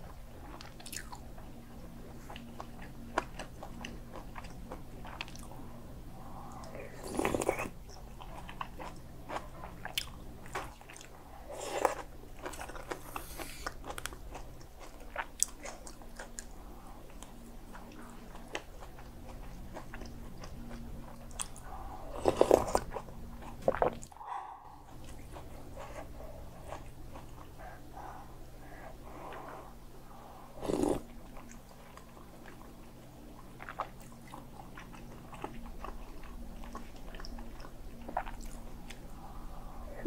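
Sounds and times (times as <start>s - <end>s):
chewing and crunching food: 0.0s - 40.0s
low steady hum: 0.0s - 40.0s.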